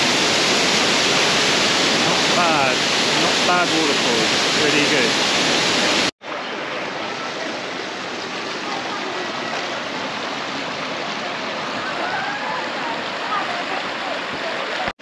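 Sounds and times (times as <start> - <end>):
river running over rocks: 0.0 - 15.0
waterfall rushing: 0.0 - 15.0.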